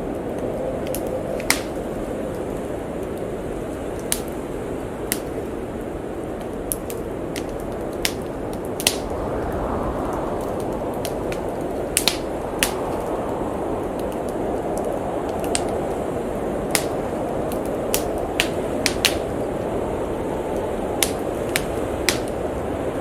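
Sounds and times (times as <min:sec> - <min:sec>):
howling blizzard wind: 0:00.0 - 0:23.0
wood fire crackling: 0:00.0 - 0:23.0.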